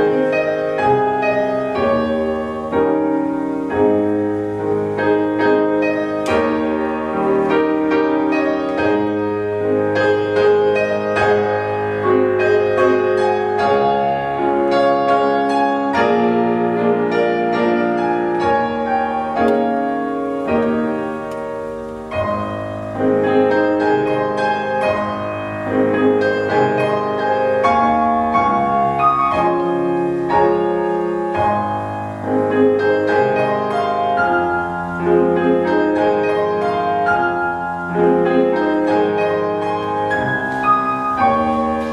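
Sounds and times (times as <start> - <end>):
solo piano playing: 0.0 - 41.9.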